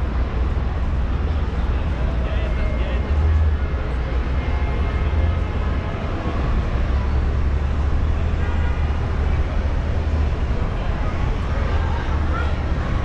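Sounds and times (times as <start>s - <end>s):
car and road rumble: 0.0s - 13.0s
traffic noise: 0.0s - 13.0s.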